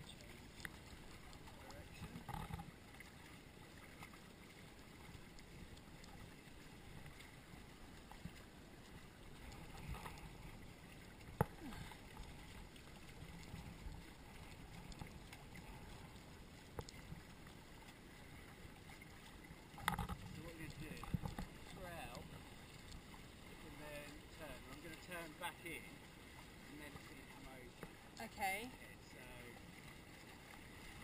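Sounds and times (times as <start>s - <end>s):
water lapping against hulls: 0.0s - 31.0s.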